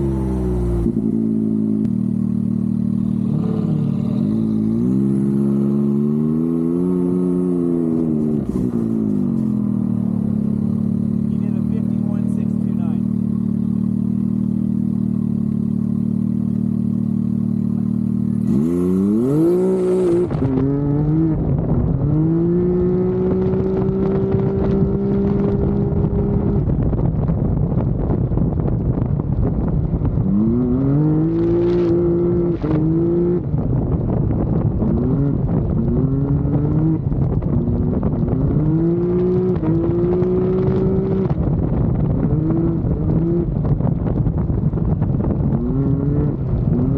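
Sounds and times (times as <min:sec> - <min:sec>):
engine idling and accelerating: 0:00.0 - 0:46.9.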